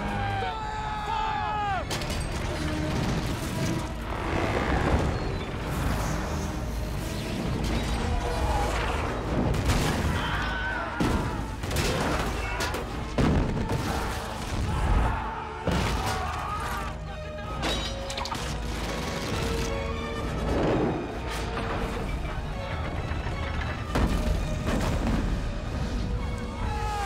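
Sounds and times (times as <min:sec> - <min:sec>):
orchestral film score: 0:00.0 - 0:27.0.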